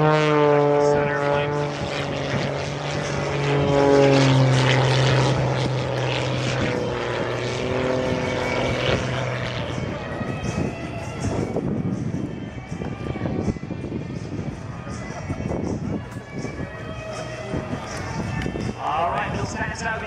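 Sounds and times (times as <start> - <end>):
plane engine droning: 0.0 - 20.0.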